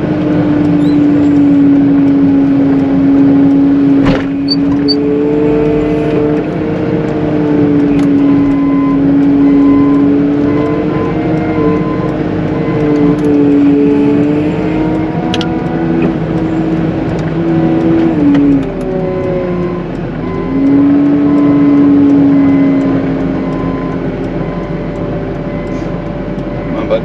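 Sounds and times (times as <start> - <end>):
wheel loader engine whining: 0.0 - 27.0.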